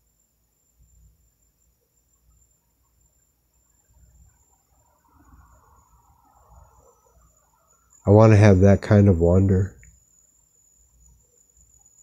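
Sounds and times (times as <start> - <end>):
crickets trilling: 0.0 - 12.0
faint rough mid-range sound: 0.0 - 12.0.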